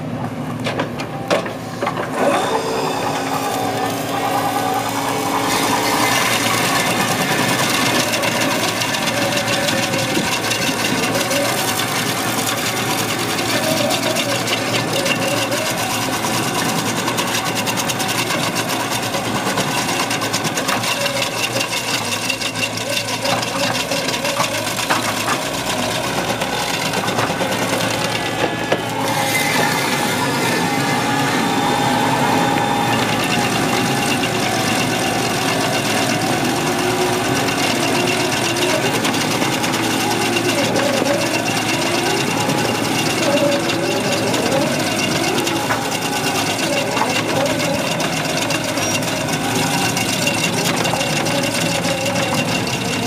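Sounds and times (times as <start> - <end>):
diesel engines under load: 0.0 - 53.0
stump grinder chipping wood: 1.0 - 53.0
stump crusher boring into wood: 1.4 - 53.0.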